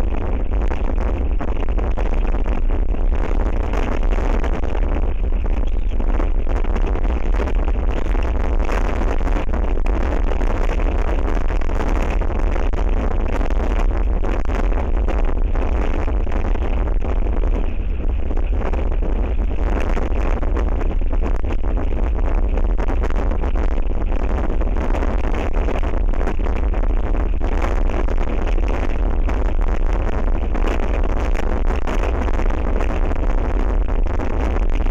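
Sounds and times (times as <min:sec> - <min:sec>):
strong wind buffeting microphone: 0:00.0 - 0:34.9.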